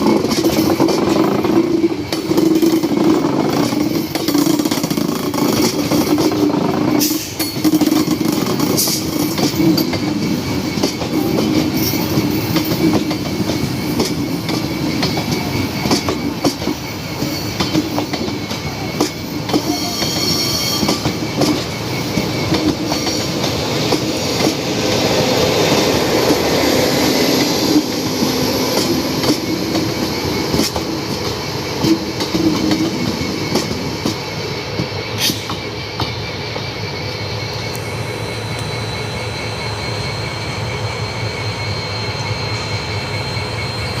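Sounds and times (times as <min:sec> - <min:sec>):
train wheels clattering: 0:00.0 - 0:36.8.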